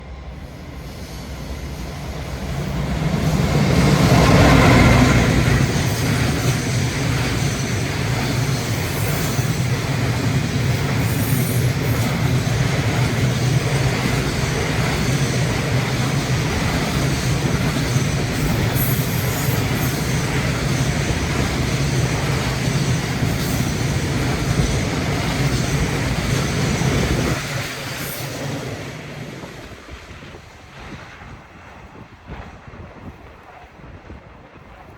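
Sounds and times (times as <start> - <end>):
electric locomotive passing: 0.0 - 34.9
freight train rail rumble: 0.0 - 34.9.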